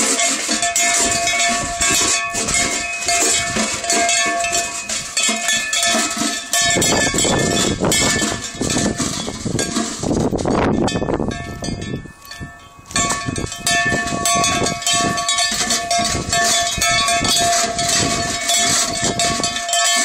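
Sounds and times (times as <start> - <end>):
sleigh bells jingling: 0.0 - 9.5, 10.8 - 20.0
loud rough noise: 0.0 - 10.7, 12.9 - 20.0.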